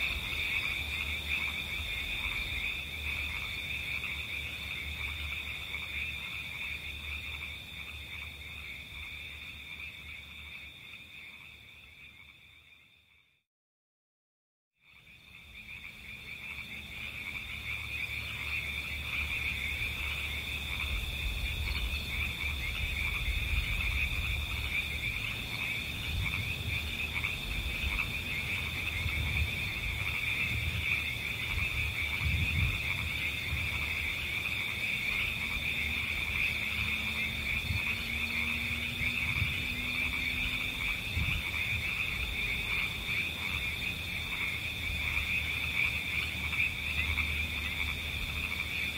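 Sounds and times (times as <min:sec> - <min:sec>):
frogs trilling: 0:00.0 - 0:13.3, 0:14.8 - 0:48.9.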